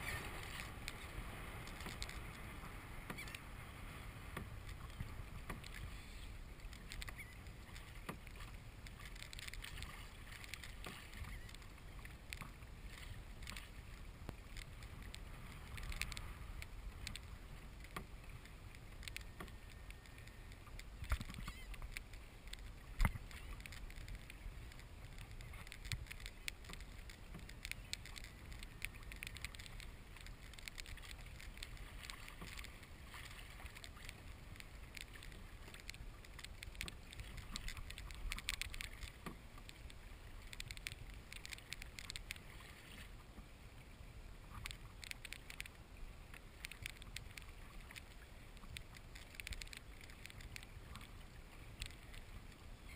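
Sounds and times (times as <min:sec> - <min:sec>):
water lapping against kayak hull: 0:00.0 - 0:52.9.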